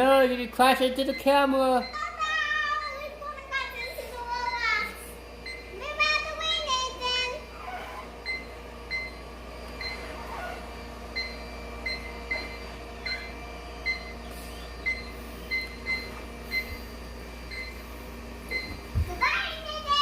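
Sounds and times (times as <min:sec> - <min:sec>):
robot running hum: 0:01.8 - 0:20.0.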